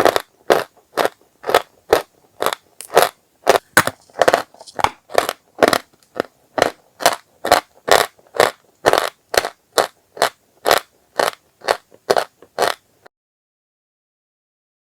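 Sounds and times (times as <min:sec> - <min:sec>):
chalk crunching: 0:00.0 - 0:12.8.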